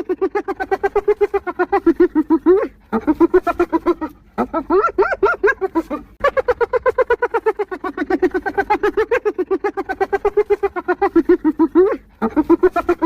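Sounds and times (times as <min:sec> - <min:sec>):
hyena giggling whoops: 0:00.0 - 0:13.0.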